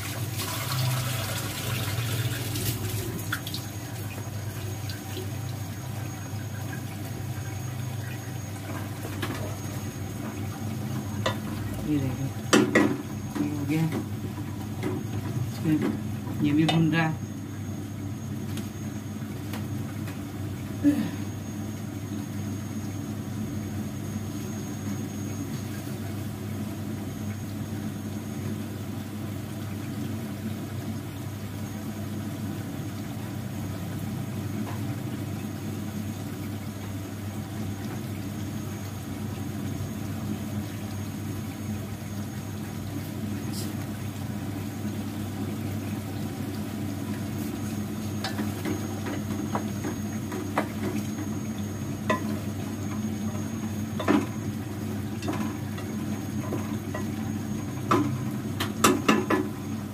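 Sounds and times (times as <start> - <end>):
food frying in a pot: 0.0 - 59.9
low mechanical hum: 0.0 - 59.9.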